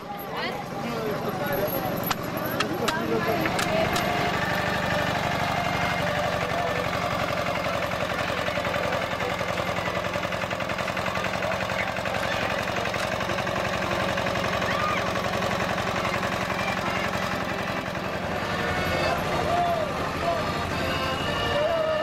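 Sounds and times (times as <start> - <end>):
tractor engine chugging: 0.0 - 22.0.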